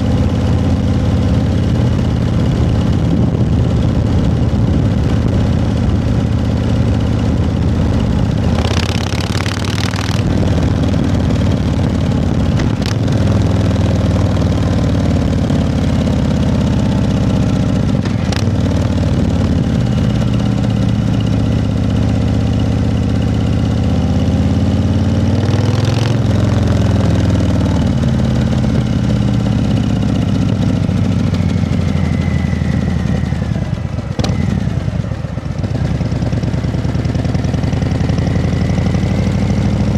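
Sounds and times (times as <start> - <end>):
engine idling: 0.0 - 23.8, 28.6 - 39.2.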